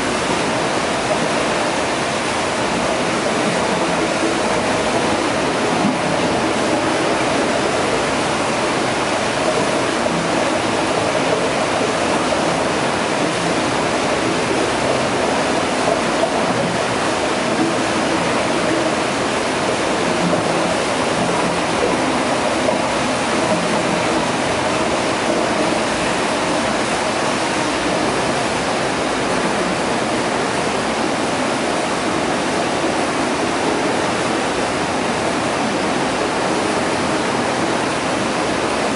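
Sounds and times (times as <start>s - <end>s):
water rushing over a weir: 0.0s - 38.9s.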